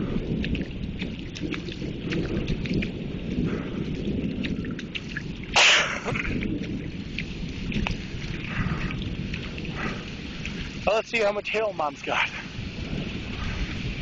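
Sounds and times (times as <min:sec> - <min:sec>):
steady low rumble: 0:00.0 - 0:14.0
water dripping and tapping: 0:00.0 - 0:14.0.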